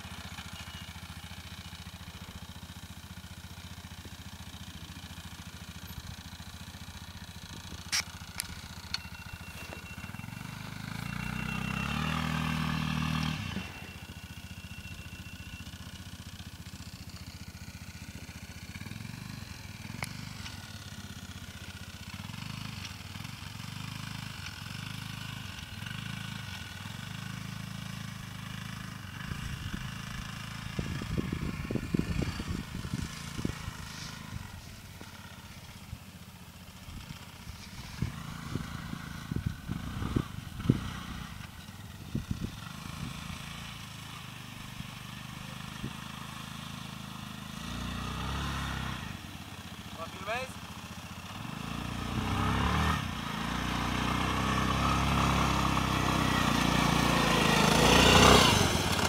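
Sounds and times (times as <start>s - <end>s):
distant quad bike engine: 0.0s - 59.0s.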